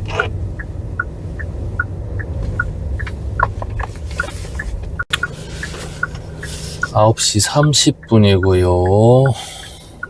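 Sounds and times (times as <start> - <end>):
car engine and road noise: 0.0 - 10.0
turn signal ticking: 0.0 - 10.0.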